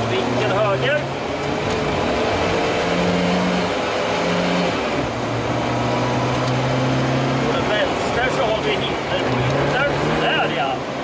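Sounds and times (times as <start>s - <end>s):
car engine running hard: 0.0s - 11.0s
tyre and road noise: 0.0s - 11.0s.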